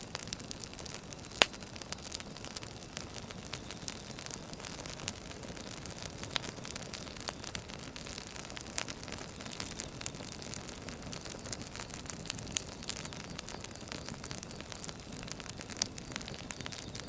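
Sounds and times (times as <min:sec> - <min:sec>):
steady hiss of fire: 0:00.0 - 0:17.0
wood fire snapping and popping: 0:00.0 - 0:17.0.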